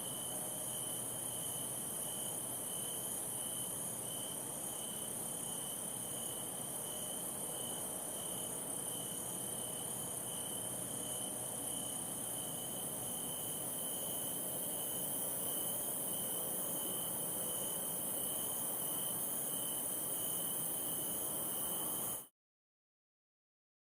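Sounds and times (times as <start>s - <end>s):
night insects chirring: 0.0s - 22.3s.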